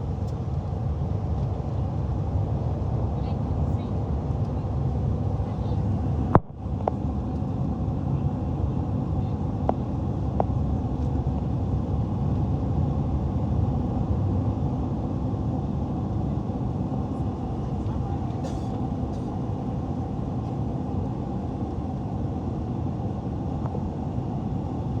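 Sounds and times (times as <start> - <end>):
airliner engines and airflow rumble: 0.0 - 25.0.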